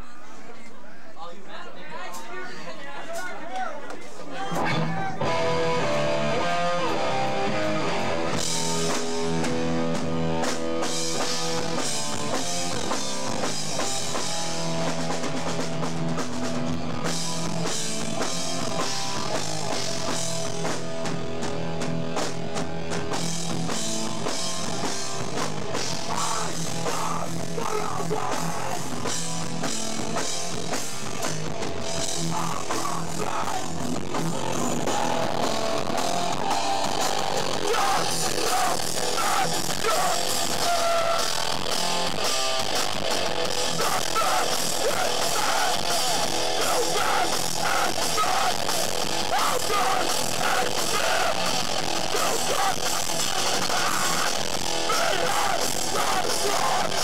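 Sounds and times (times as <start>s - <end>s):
punk band playing live: 4.3s - 57.0s.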